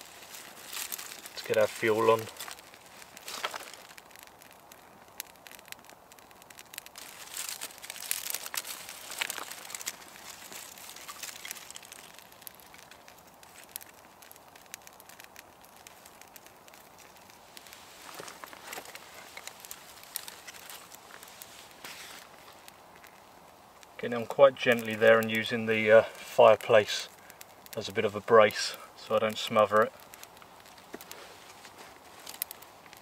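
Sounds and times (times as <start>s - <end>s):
twig kindling rustling and crackling: 0.0s - 33.0s.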